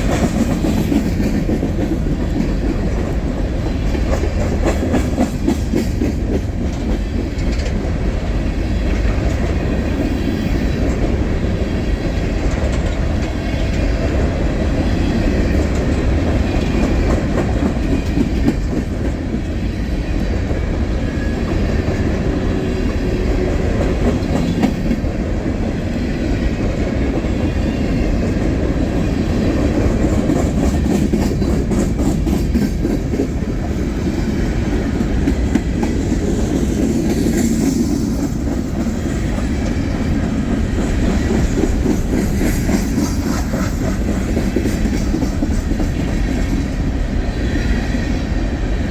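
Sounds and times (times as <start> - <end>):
train wheels rumbling on track: 0.0 - 48.9.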